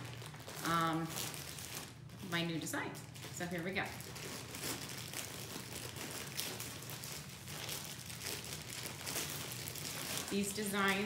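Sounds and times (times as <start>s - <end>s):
plastic mailer bag crinkling: 0.0s - 11.0s.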